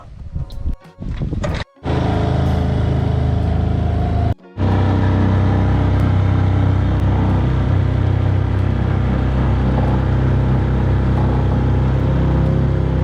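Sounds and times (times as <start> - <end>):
outboard motor running: 1.8 - 13.0.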